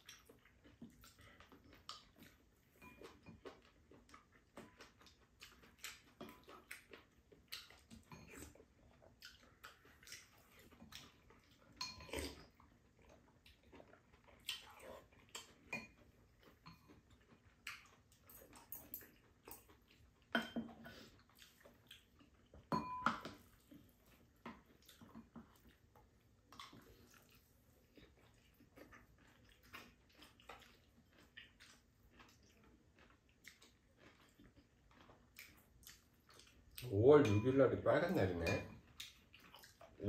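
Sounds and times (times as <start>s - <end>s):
chewing and slurping: 0.0s - 37.4s, 38.0s - 40.0s.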